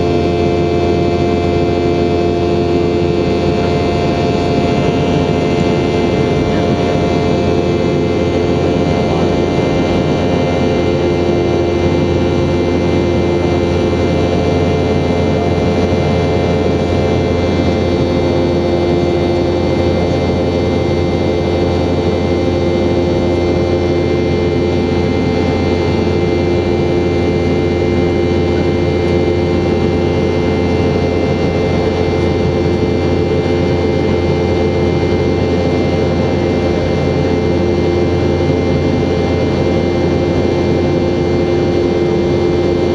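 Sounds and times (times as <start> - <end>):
engine hum and whine tones: 0.0 - 42.9
jet engines rumbling: 0.0 - 42.9.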